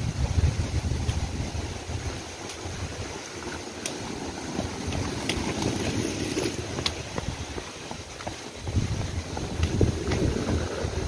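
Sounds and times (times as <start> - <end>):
wind on microphone: 0.0 - 11.0
footsteps on pavement: 0.2 - 11.0.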